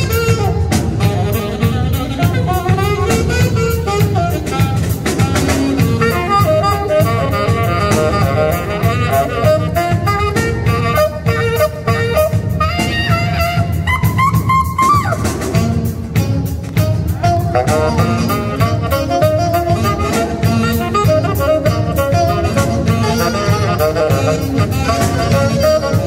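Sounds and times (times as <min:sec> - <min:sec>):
drum kit: 0:00.0 - 0:26.0
saxophones playing: 0:00.0 - 0:26.0.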